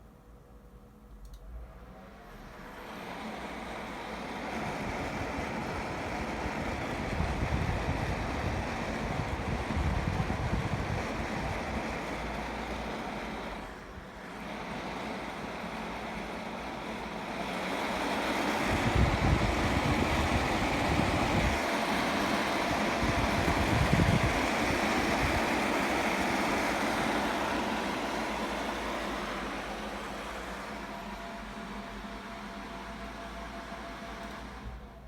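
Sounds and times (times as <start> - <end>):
cooler fans whooshing: 1.3 - 35.0.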